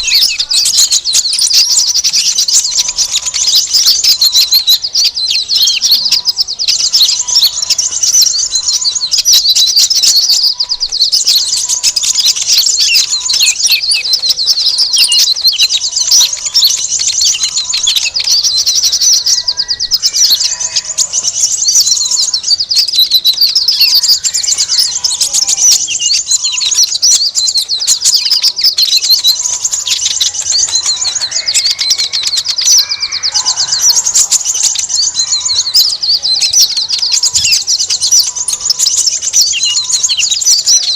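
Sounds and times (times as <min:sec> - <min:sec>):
small birds chattering and chirping: 0:00.0 - 0:40.9.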